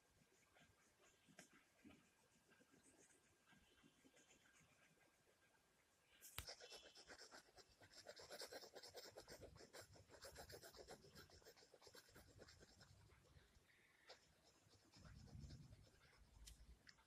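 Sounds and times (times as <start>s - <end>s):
pencil scratching on paper: 1.8s - 5.4s, 6.2s - 16.6s.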